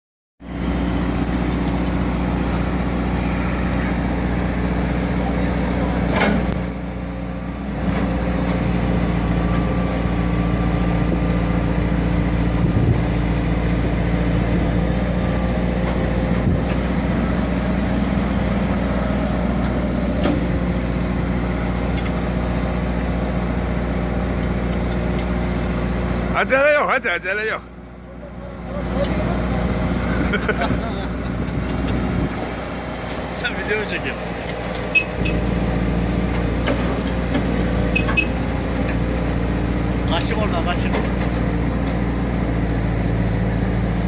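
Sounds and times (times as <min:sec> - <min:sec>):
truck engine running: 0:00.4 - 0:44.0.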